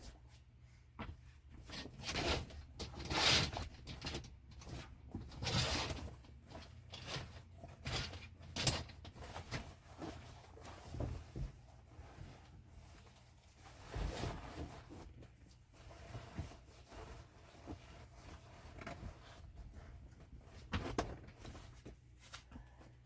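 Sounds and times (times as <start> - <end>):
rustling and handling noises: 0.0 - 23.0.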